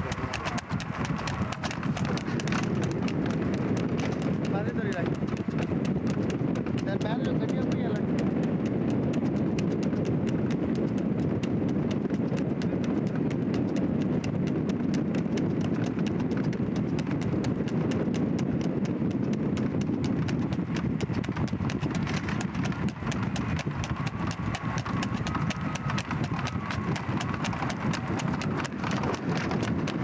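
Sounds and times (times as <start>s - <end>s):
horse hooves trotting on pavement: 0.0s - 30.0s.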